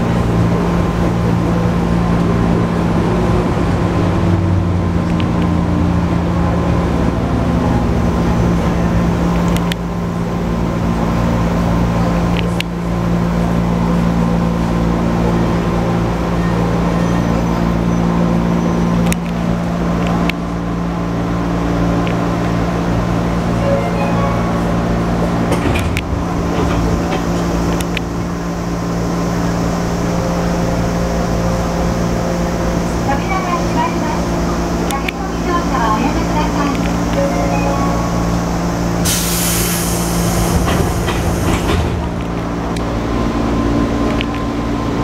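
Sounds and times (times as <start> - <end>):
electric train running hum: 0.0 - 45.0.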